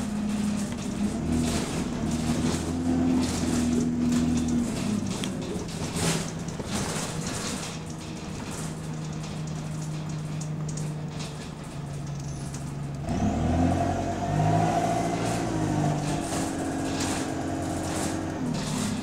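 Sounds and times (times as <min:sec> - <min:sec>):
bus engine revving: 0:00.0 - 0:19.0.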